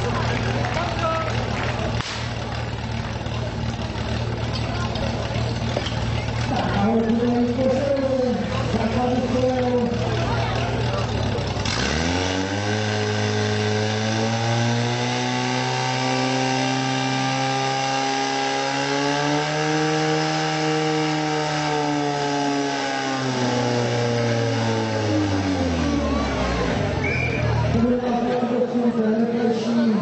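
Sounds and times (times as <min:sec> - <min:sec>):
pump engine running at full throttle: 0:00.0 - 0:27.0.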